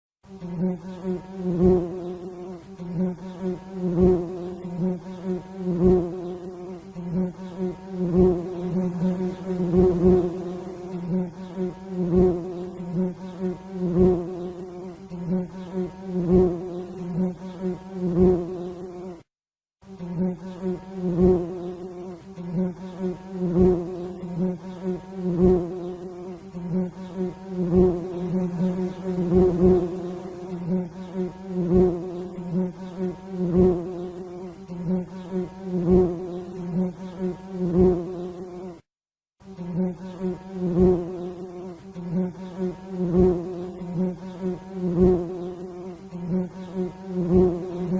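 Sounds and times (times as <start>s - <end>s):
bees buzzing: 0.3s - 19.3s, 19.9s - 38.8s, 39.5s - 47.9s.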